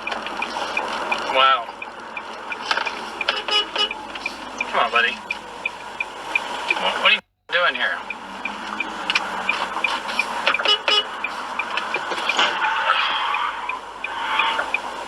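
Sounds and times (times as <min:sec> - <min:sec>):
high repeating tick: 0:00.0 - 0:06.8, 0:07.8 - 0:12.4, 0:13.6 - 0:15.0
car road noise: 0:00.0 - 0:15.0.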